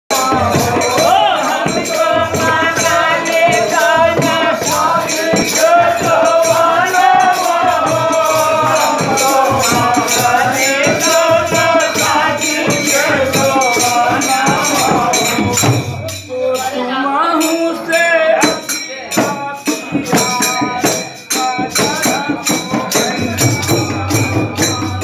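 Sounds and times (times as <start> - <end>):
jingling hand percussion: 0.1 - 25.0
men singing folk song: 0.1 - 25.0.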